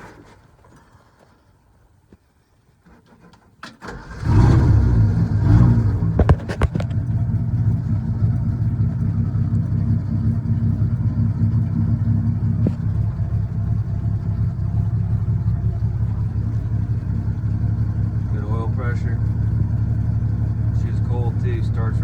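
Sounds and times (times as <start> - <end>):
truck engine idling: 3.9 - 22.0.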